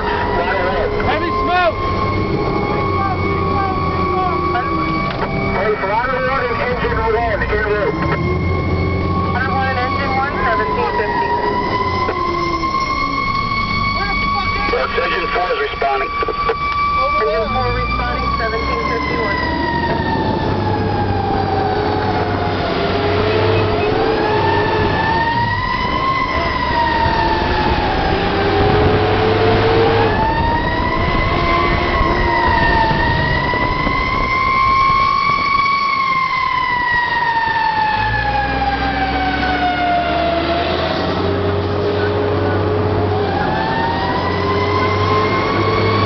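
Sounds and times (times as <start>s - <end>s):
fire engine siren wailing: 0.0s - 46.0s.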